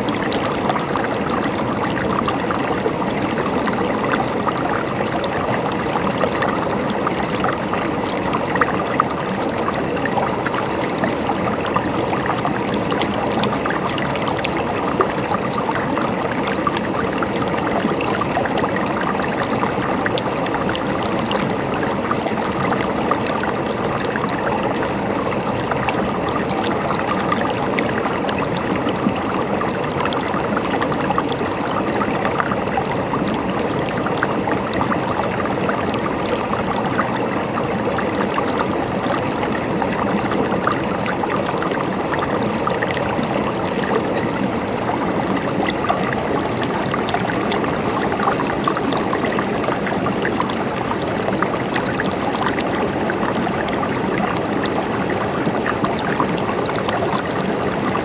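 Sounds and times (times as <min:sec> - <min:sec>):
stream trickling and splashing: 0:00.0 - 0:58.0.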